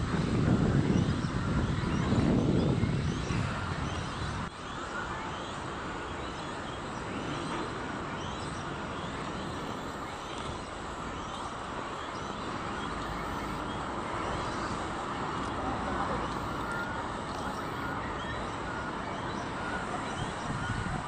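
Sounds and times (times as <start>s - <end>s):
small birds chirping: 0.8s - 20.9s
city background hum: 2.8s - 21.0s.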